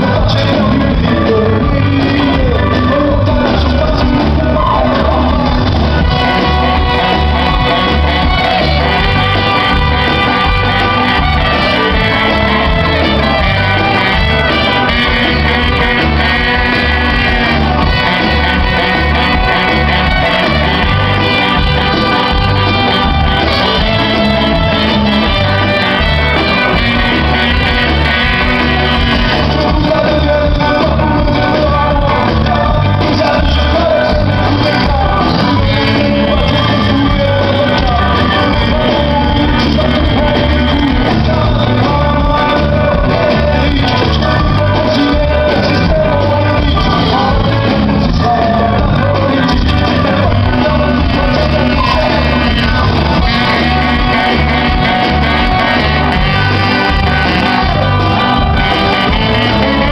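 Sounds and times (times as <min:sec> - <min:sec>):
drums and bass beat: 0:00.0 - 0:59.9
electric guitar: 0:00.0 - 0:59.9
singer singing: 0:00.0 - 0:59.9
horn section with trumpet: 0:00.1 - 0:59.9.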